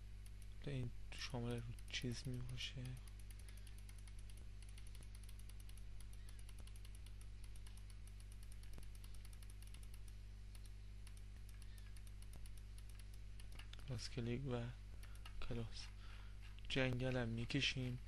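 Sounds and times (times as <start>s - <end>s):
low electrical hum: 0.0s - 18.0s
rapid mouse clicks: 0.0s - 18.0s.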